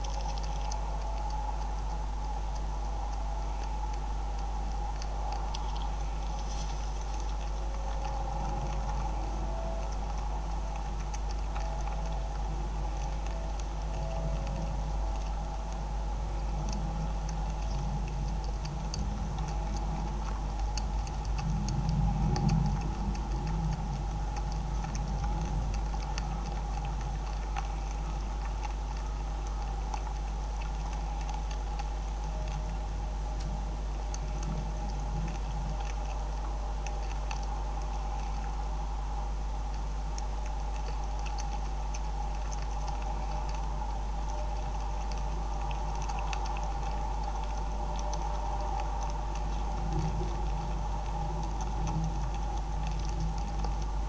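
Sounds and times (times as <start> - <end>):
beavers chewing grain: 0.0 - 54.0
low electrical hum: 0.0 - 54.0
low rumble: 0.0 - 54.0.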